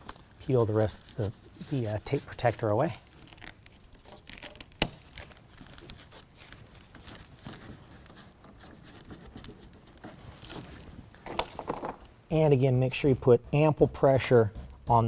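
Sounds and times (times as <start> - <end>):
tape rustling and rubbing: 0.0 - 15.0.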